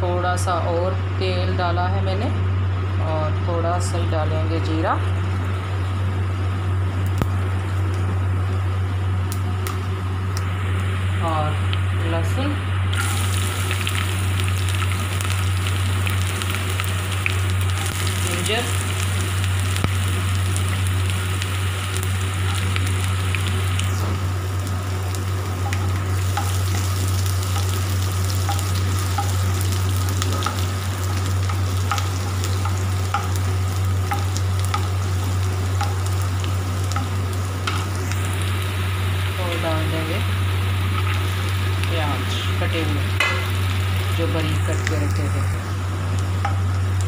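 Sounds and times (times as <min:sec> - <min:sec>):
steady low hum: 0:00.0 - 0:47.0
spices sizzling in hot oil: 0:03.8 - 0:47.0.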